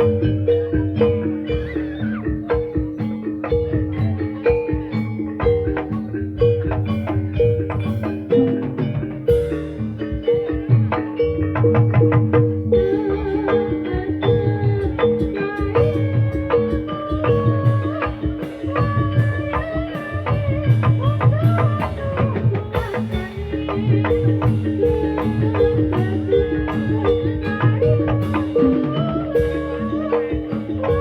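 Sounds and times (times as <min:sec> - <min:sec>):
metal-keyed gamelan melody: 0:00.0 - 0:31.0.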